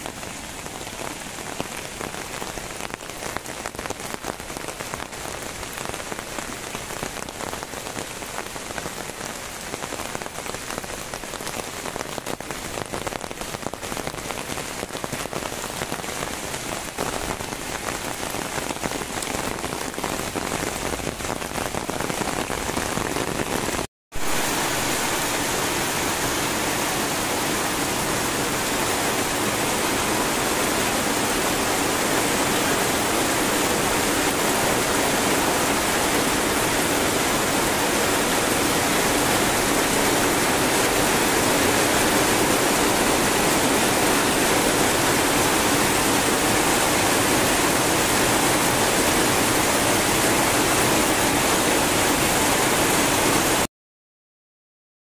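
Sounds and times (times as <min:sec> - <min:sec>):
heavy rain on wet ground: 0:00.0 - 0:53.7.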